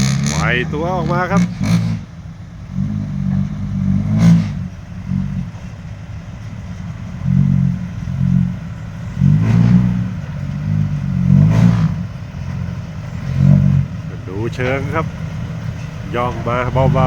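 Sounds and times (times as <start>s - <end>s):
heavy truck engine revving: 0.0s - 17.0s.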